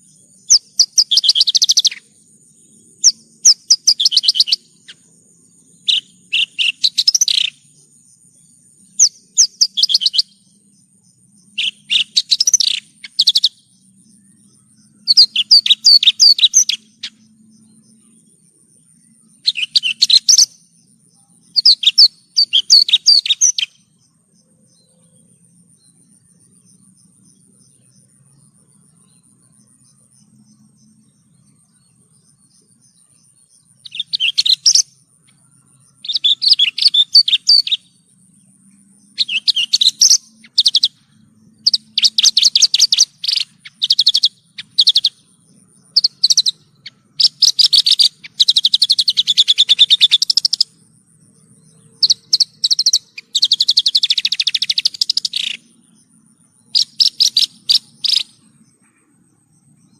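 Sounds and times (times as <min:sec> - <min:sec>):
lark singing: 0:00.0 - 0:38.3, 0:39.0 - 0:59.2.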